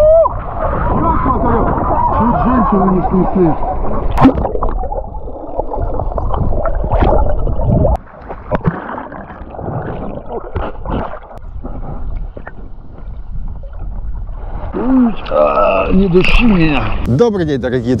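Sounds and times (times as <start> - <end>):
muffled underwater rushing: 0.0 - 15.2.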